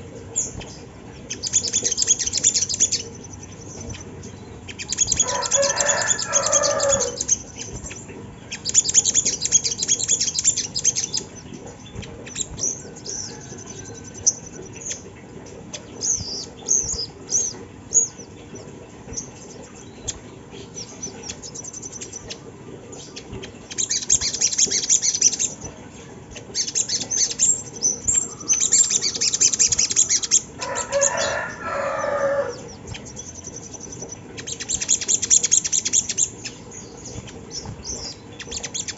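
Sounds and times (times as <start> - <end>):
bird high trilled calls: 0.0 - 25.7, 26.3 - 38.9
bird chirps: 0.3 - 38.9.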